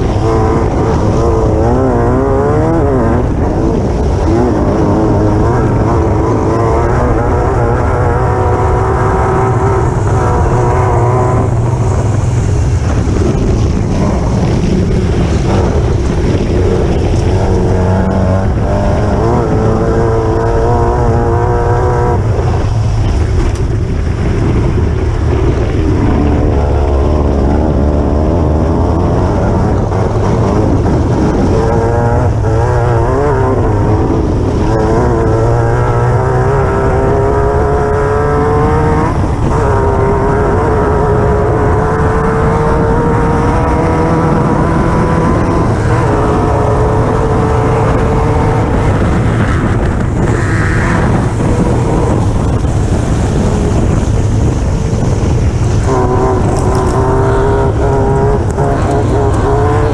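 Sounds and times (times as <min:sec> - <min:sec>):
buggy engine revving: 0:00.0 - 0:59.9
steady rushing noise: 0:00.0 - 0:59.9.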